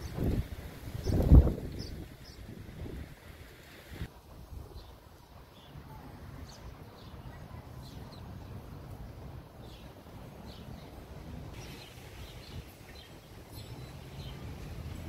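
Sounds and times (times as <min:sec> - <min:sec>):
small birds chirping: 0:00.0 - 0:02.9, 0:04.7 - 0:15.0.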